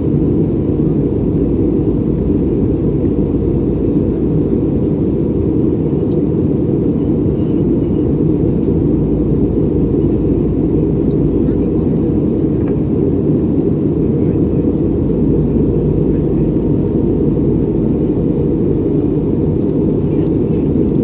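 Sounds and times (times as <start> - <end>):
airplane cabin roar: 0.0 - 21.0.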